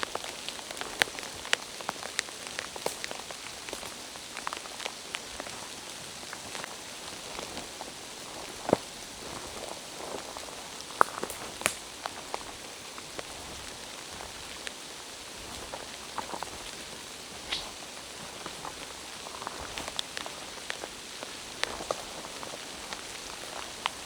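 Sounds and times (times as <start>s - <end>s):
rain pattering in forest: 0.0s - 24.0s.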